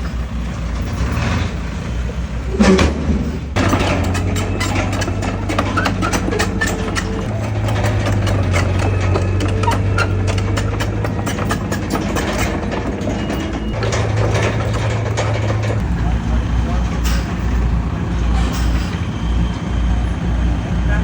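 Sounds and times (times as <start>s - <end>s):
bulldozer diesel engine clanking: 0.0s - 21.0s.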